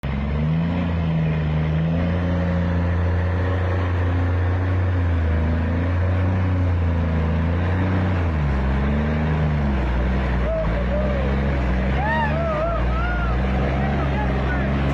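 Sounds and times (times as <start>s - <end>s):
truck diesel engine droning: 0.0s - 14.9s.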